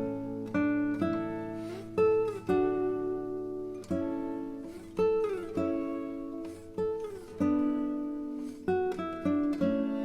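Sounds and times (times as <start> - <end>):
acoustic guitar instrumental: 0.0 - 10.0.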